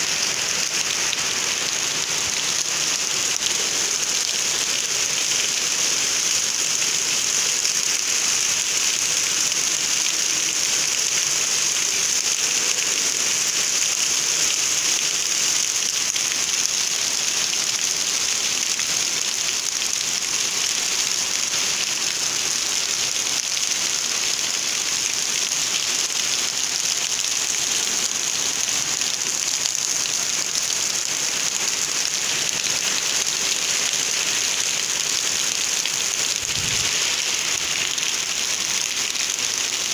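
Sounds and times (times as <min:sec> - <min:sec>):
heavy rain on ground: 0:00.0 - 0:39.9.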